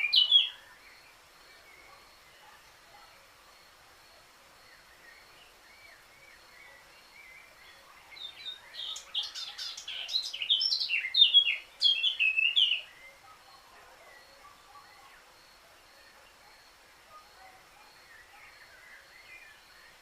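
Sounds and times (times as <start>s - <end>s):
bird singing varied notes: 0.0s - 3.0s, 4.6s - 20.0s.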